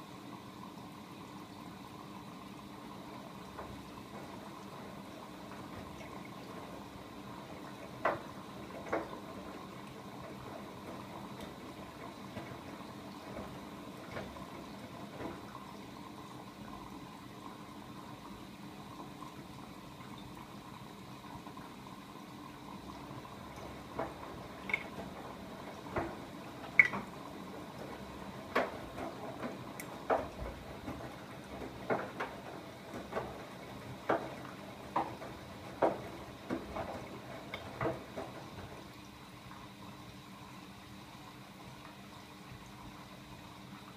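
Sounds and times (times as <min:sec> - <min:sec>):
washing machine drum sloshing: 0:00.0 - 0:43.9
washing machine hum: 0:00.0 - 0:43.9.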